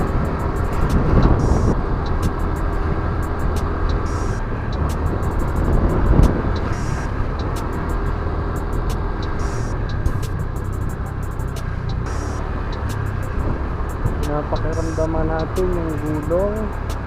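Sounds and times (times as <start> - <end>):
scooter engine drone: 0.0 - 17.0
wind and road noise: 0.0 - 17.0.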